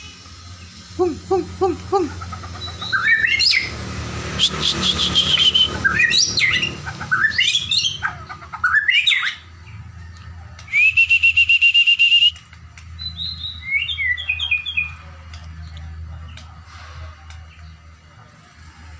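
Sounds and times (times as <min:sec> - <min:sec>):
songbird singing: 0:00.0 - 0:18.9.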